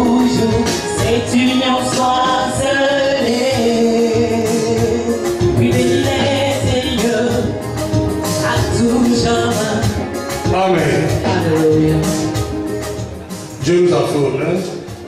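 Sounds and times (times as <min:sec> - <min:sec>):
gospel singing voices: 0:00.0 - 0:12.4
instrumental backing with percussion: 0:00.0 - 0:15.0.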